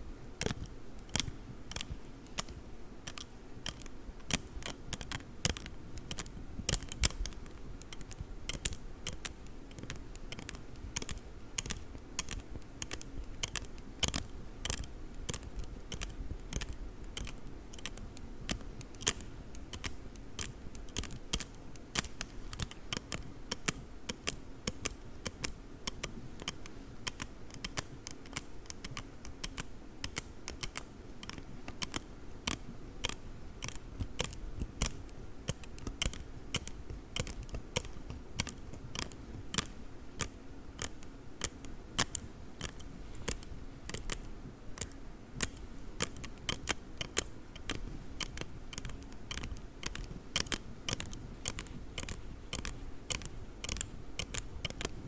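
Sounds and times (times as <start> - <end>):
folding rule clicking: 0.4 - 55.0.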